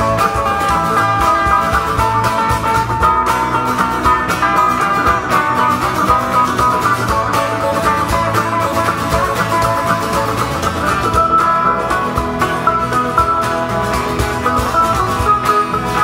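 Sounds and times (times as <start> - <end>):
cajon beat: 0.0 - 16.0
electric guitar: 0.0 - 16.0
strummed acoustic guitar: 0.0 - 16.0.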